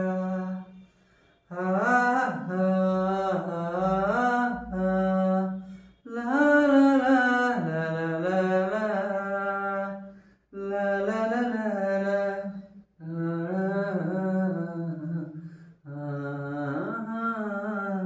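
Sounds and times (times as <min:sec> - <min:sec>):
man singing unaccompanied: 0:00.0 - 0:00.8, 0:01.5 - 0:18.0.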